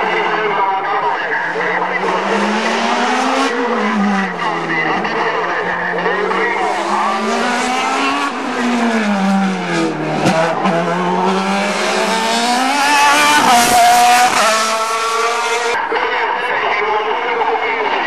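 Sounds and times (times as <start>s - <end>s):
racing car engine at full throttle: 0.0s - 18.0s.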